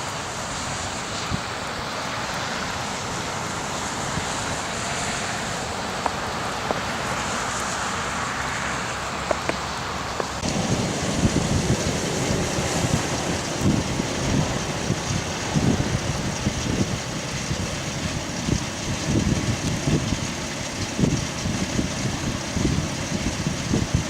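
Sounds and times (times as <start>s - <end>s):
wind blowing: 0.0s - 24.0s
wind buffeting microphone: 2.5s - 7.8s, 9.0s - 24.0s.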